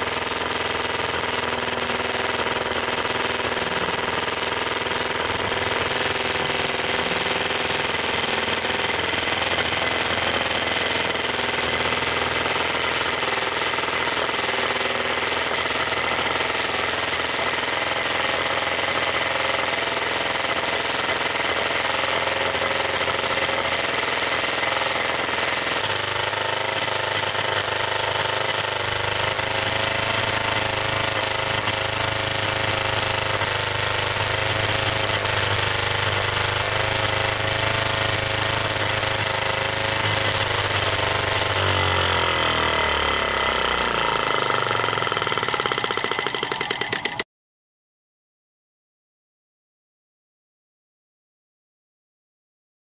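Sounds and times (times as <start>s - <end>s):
miniature gas engine running: 0.0s - 47.3s.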